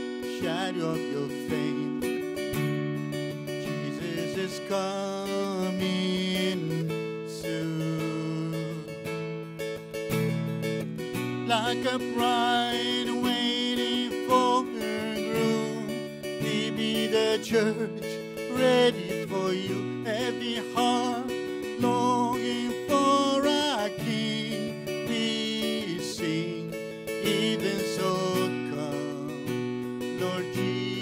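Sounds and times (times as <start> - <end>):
man singing: 0.0 - 2.5, 3.4 - 9.2, 11.4 - 31.0
acoustic guitar strumming: 0.0 - 31.0.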